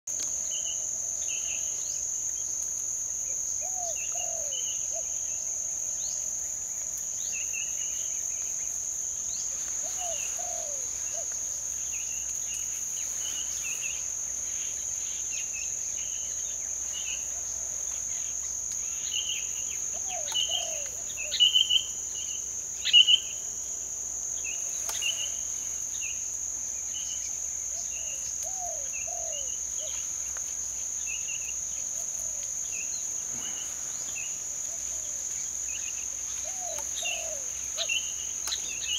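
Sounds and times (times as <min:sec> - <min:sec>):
crickets droning: 0:00.1 - 0:38.9
small birds chirping: 0:03.2 - 0:23.4, 0:24.4 - 0:38.9.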